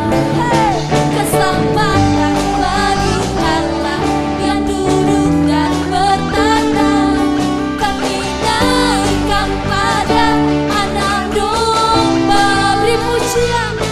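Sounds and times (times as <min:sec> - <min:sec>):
pop song with singing: 0:00.0 - 0:13.9.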